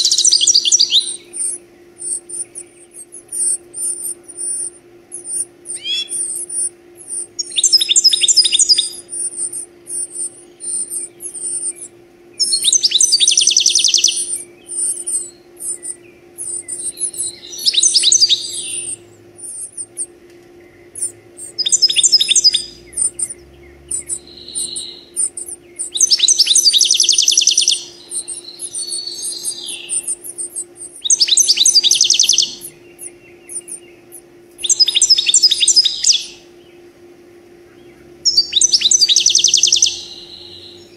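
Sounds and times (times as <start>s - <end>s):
goldfinch trilling song: 0.0s - 36.8s, 37.7s - 40.9s
high thin bird twittering: 0.0s - 36.8s, 37.7s - 40.9s
faint steady hum: 0.0s - 40.9s.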